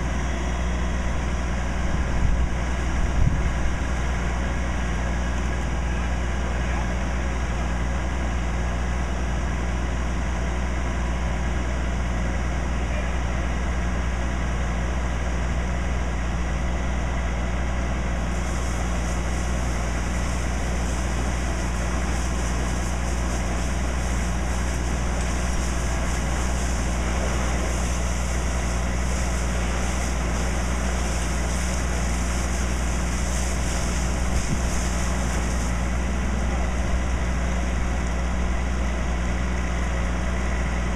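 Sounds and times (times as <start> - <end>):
fire engine idling: 0.0 - 40.9
hose spraying water: 0.0 - 40.9.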